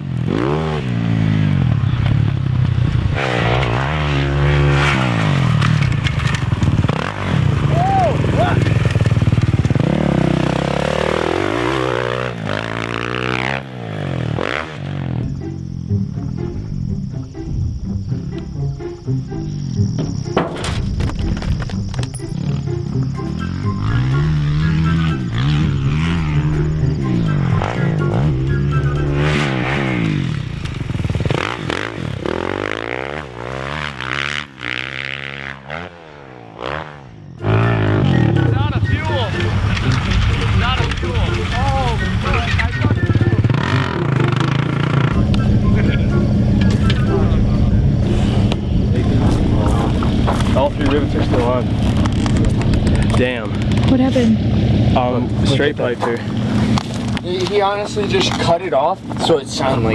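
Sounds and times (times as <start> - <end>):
dirt bike engine revving: 0.0 - 21.0, 22.3 - 59.9.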